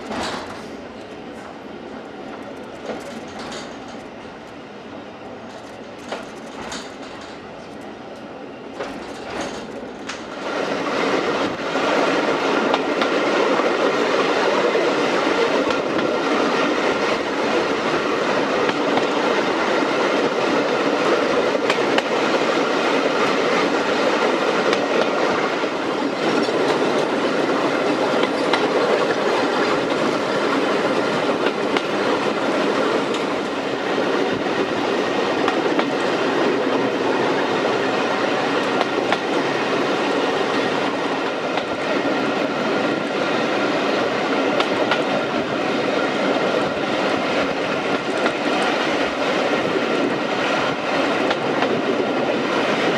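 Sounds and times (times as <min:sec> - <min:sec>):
rail joint clicks: 0:00.0 - 0:52.9
train wheels on rails: 0:00.0 - 0:52.9.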